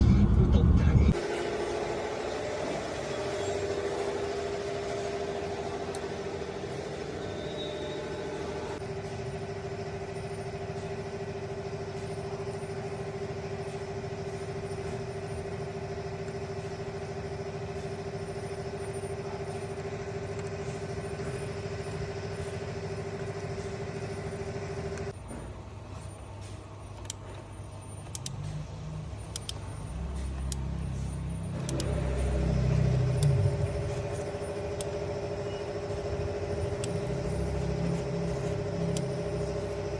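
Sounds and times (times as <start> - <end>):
starter motor cranking engine: 1.1 - 39.9.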